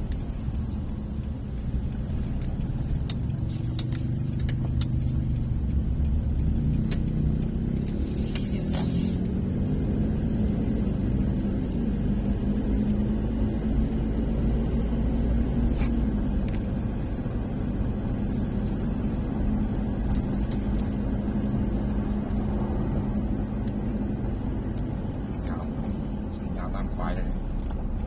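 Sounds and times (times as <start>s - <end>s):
car engine hum: 0.0s - 28.0s
road rumble: 0.0s - 28.0s.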